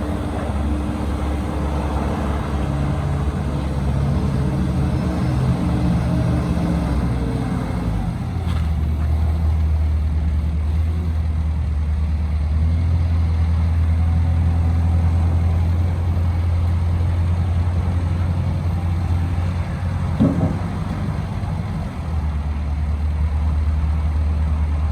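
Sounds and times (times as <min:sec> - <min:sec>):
diesel engine humming: 0:00.0 - 0:24.8.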